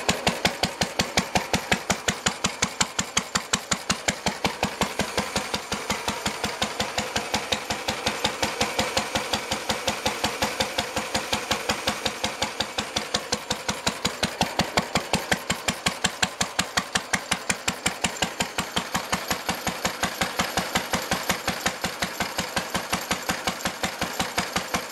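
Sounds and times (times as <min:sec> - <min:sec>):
stationary engine running: 0:00.0 - 0:24.9.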